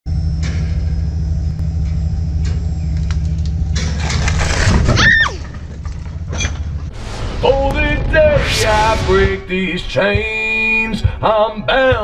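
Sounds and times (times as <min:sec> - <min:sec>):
engine idling rumble: 0:00.1 - 0:12.0.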